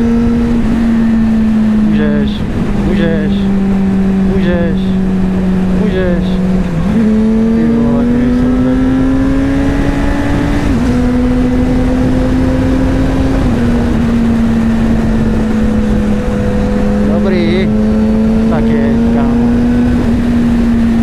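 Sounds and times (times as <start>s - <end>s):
motorcycle engine cruising: 0.0s - 21.0s
wind rushing over microphone: 0.0s - 21.0s.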